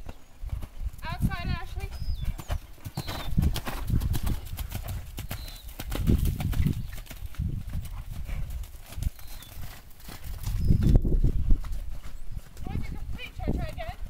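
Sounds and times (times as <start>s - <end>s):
horse hoofbeats on sand: 0.0s - 14.0s.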